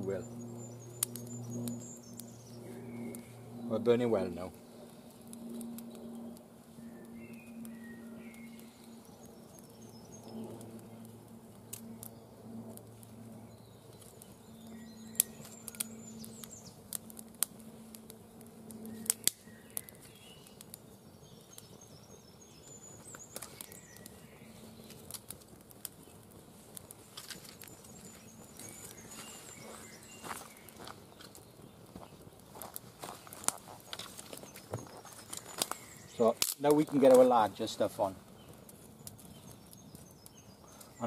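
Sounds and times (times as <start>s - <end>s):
faint birds chirping: 0.0s - 41.0s
twig fire crackling and popping: 0.0s - 41.0s.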